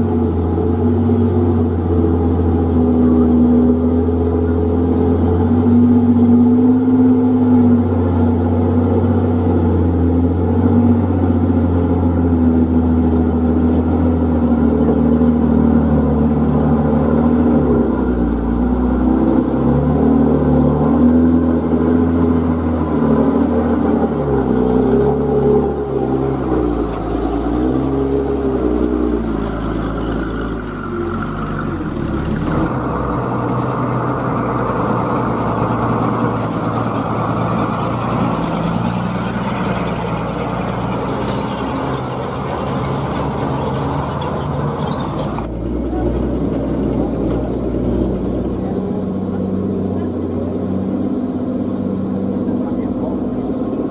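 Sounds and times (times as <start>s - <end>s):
truck engine working hard: 0.0s - 53.9s.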